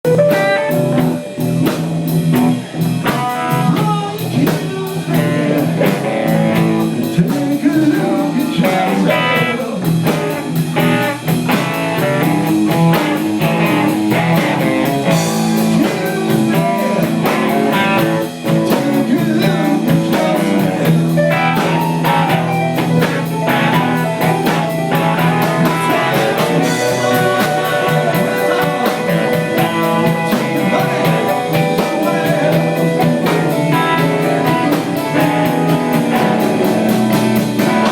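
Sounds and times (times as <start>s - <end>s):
drums with steady cymbal beat: 0.0s - 37.9s
guitar: 0.0s - 37.9s.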